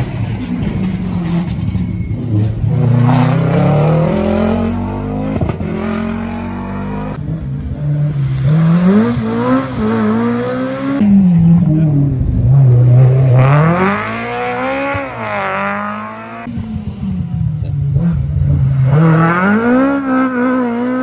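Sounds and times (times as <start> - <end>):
rally car engine revving hard: 2.3 - 17.1, 17.9 - 21.0.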